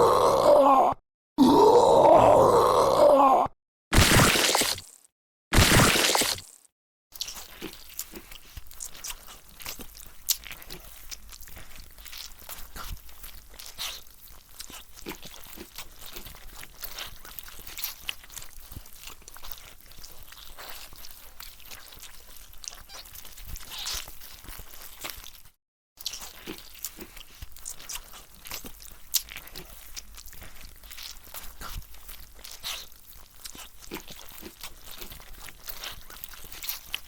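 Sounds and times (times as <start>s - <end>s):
crunching and chewing: 4.0s - 37.0s.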